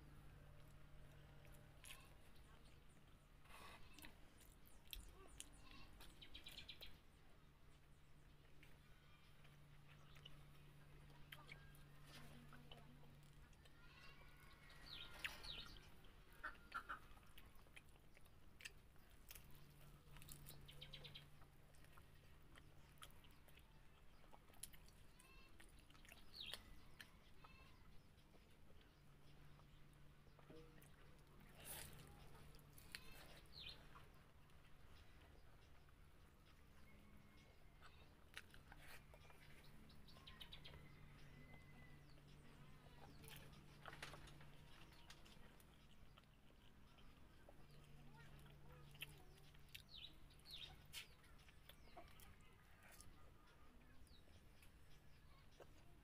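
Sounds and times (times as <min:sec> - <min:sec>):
chewing and wet mouth clicks: 0:03.9 - 0:07.0, 0:09.5 - 0:13.7, 0:14.4 - 0:27.5, 0:28.2 - 0:56.0.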